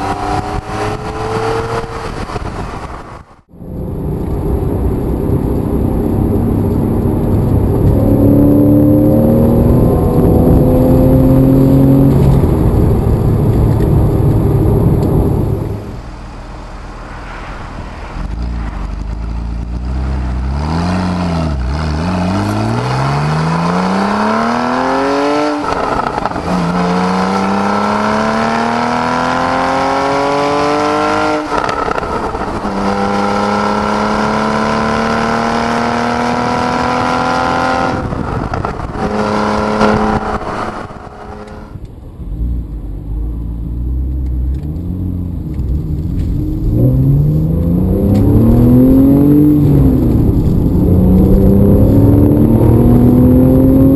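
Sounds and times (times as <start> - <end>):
sports car engine accelerating: 3.5 - 17.1, 18.1 - 53.9.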